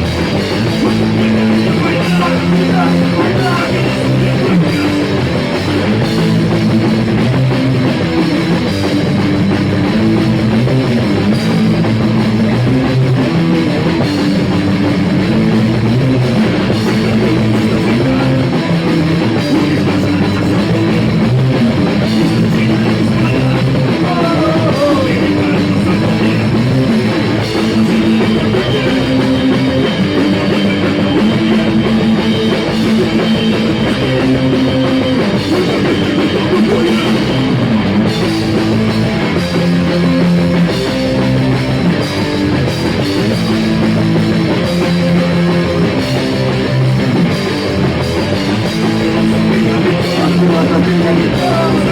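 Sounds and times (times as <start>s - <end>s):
drum kit: 0.0s - 51.9s
electric guitar: 0.0s - 51.9s.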